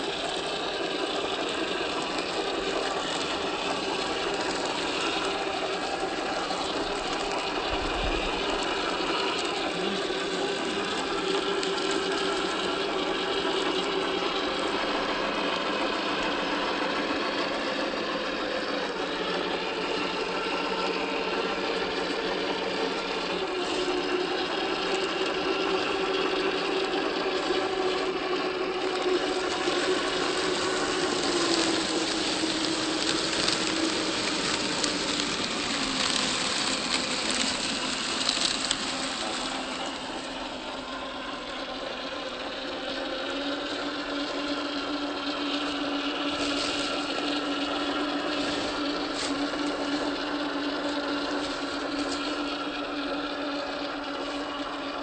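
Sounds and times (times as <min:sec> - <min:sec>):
electric motor and gear whine: 0:00.0 - 0:55.0.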